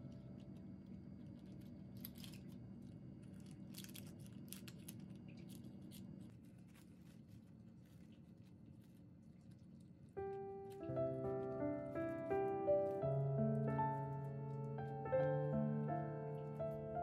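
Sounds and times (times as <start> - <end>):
plastic wrap crinkling: 1.2 - 17.0.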